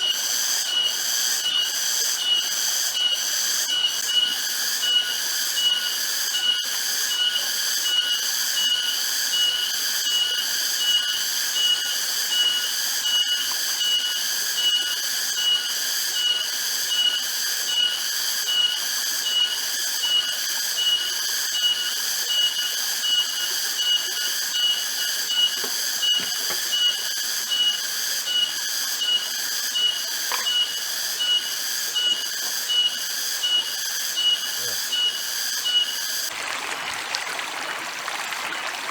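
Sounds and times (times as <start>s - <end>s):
forest insects droning: 0.0s - 38.9s.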